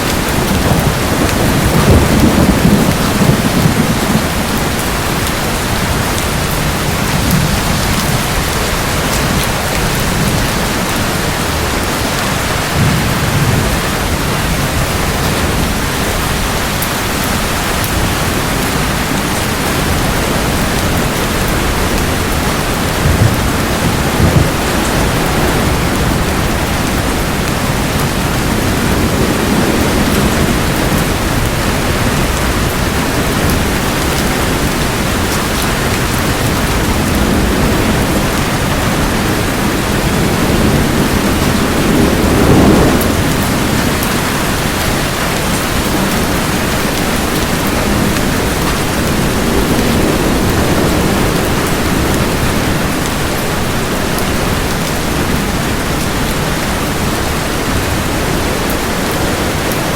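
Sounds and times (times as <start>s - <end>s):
steady rain falling: 0.0s - 59.9s
thunder rumbling: 0.0s - 59.9s.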